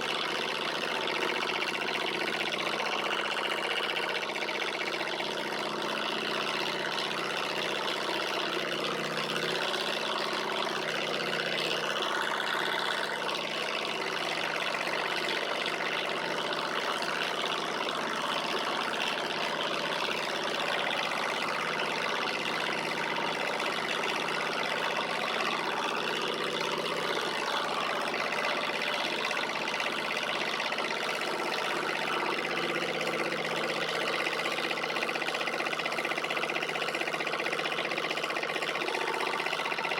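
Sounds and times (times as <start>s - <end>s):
engine mechanical whine: 0.0s - 39.9s.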